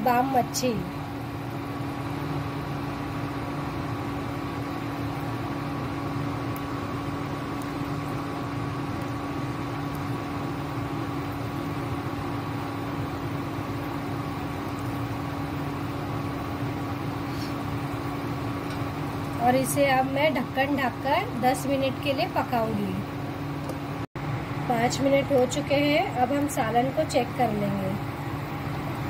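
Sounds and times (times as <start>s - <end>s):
kitchen appliance humming: 0.0s - 29.0s.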